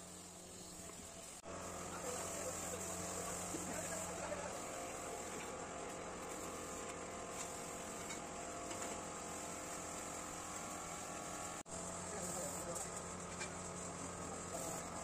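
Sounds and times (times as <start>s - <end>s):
constant high hiss: 0.0s - 15.0s
steady mechanical hum: 0.0s - 15.0s.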